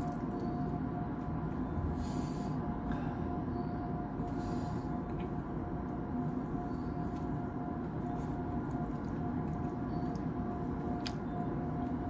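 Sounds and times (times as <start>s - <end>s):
faint steady whine: 0.0s - 12.0s
low background hum: 0.0s - 12.0s.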